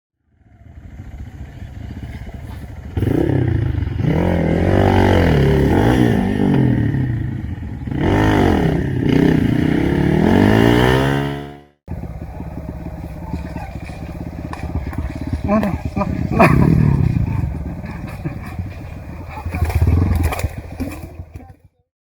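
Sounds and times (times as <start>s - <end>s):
dirt bike engine revving: 0.3s - 21.7s.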